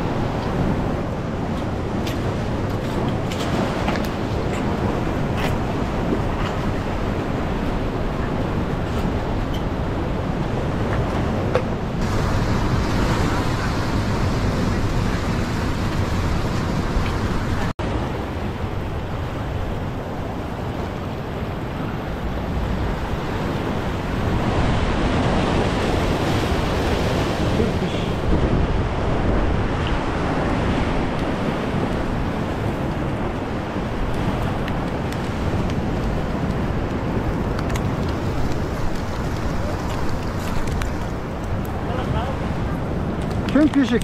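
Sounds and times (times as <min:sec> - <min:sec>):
surf washing over rocks: 0:00.0 - 0:44.0
wind buffeting microphone: 0:00.0 - 0:44.0.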